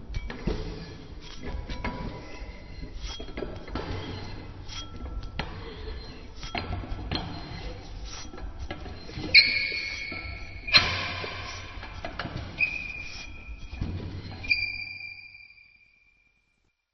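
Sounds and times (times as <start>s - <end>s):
metal valve handwheel scraping: 0.0s - 15.2s.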